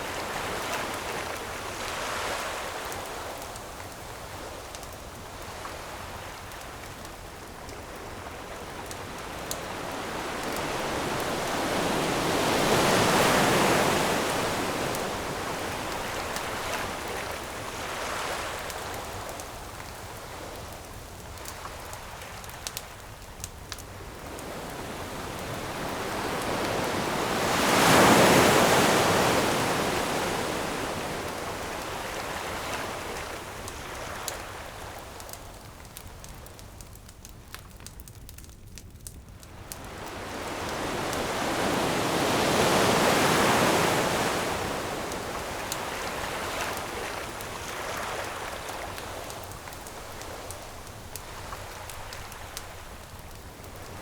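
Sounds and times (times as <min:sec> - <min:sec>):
ocean waves on shore: 0:00.0 - 0:35.6, 0:39.5 - 0:54.0
campfire crackling: 0:00.0 - 0:54.0.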